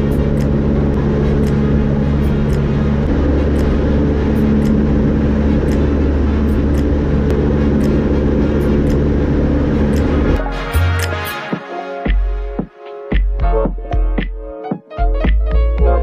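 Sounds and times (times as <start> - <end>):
propeller plane engine drone: 0.0 - 13.2.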